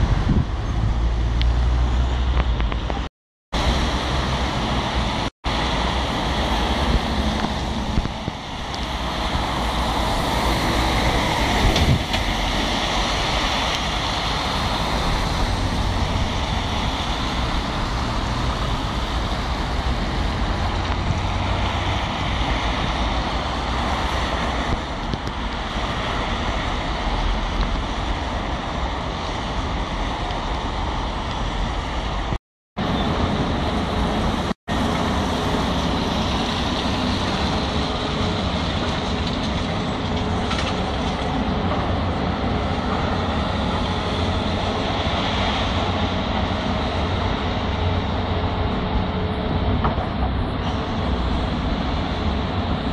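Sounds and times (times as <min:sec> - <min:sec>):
road traffic passing: 0:00.0 - 0:52.9.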